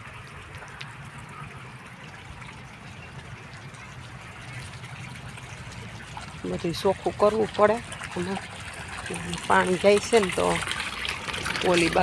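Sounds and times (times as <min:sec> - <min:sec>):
water trickling in channel: 0:00.0 - 0:12.0.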